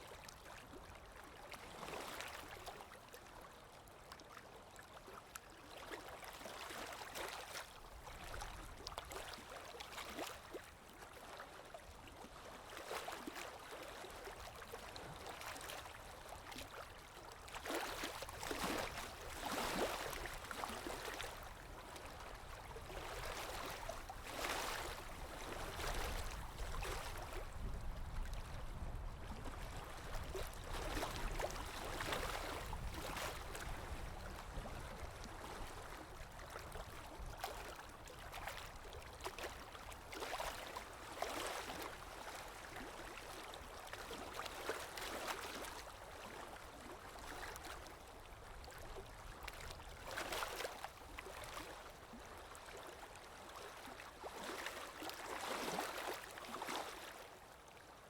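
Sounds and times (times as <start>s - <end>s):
water lapping: 4.0s - 57.8s.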